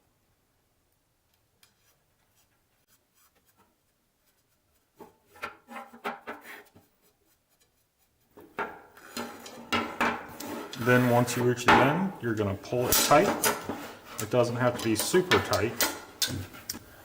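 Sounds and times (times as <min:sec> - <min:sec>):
tent pole sections rubbing and clicking: 0:01.3 - 0:11.6, 0:12.3 - 0:16.8.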